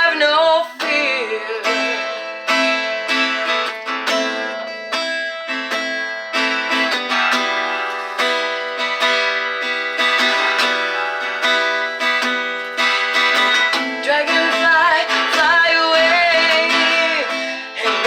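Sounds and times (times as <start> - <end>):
guitar strumming chords: 0.0 - 18.0.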